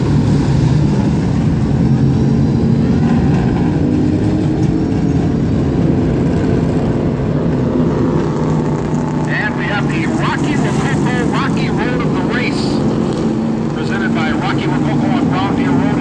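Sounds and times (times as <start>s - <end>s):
stock car engines droning: 0.0s - 16.0s.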